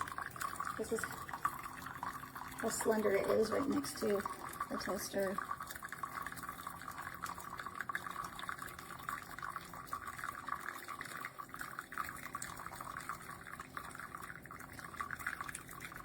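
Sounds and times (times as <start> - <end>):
water running into a mug: 0.0 - 16.0.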